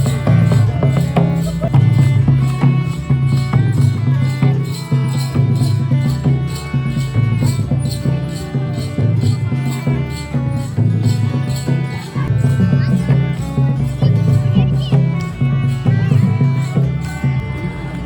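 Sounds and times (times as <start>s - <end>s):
drum low beat: 0.0s - 18.0s.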